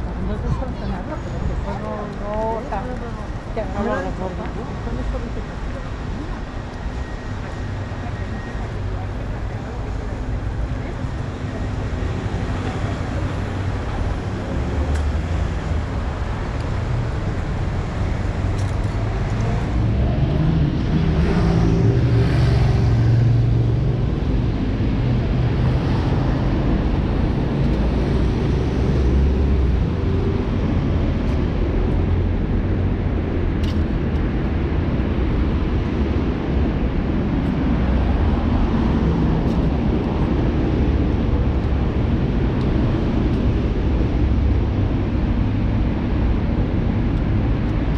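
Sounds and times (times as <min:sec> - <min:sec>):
cars passing: 0:00.0 - 0:47.9.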